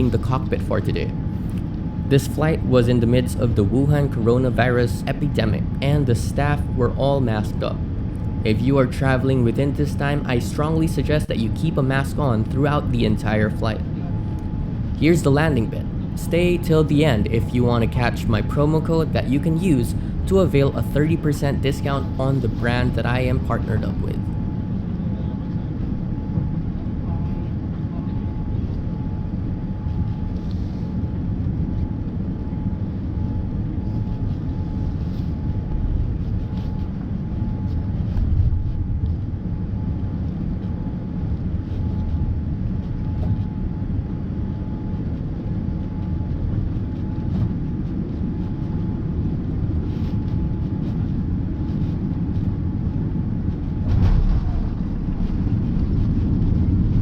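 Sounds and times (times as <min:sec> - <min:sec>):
airliner cabin engine rumble: 0:00.0 - 0:57.0
faint whine: 0:00.0 - 0:57.0.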